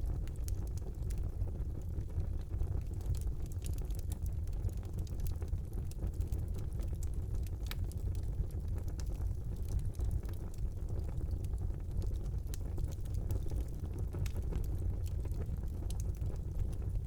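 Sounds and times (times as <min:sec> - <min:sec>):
fire crackling in fireplace: 0:00.0 - 0:17.0.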